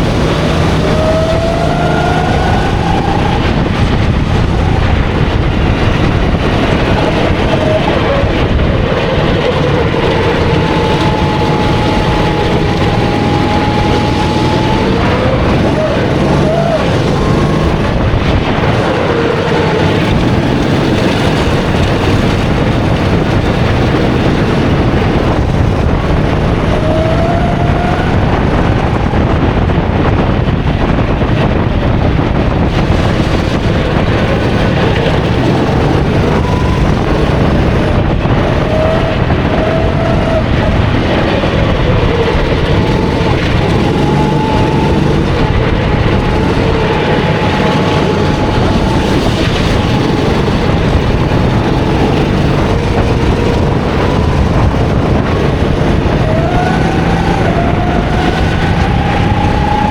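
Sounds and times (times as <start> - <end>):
kart engine running: 0.0 - 59.9
loud rushing noise: 0.0 - 59.9.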